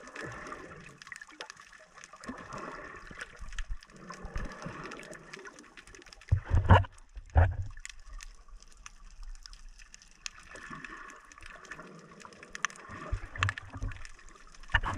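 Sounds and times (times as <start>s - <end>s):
muffled water sloshing underwater: 0.0s - 14.9s.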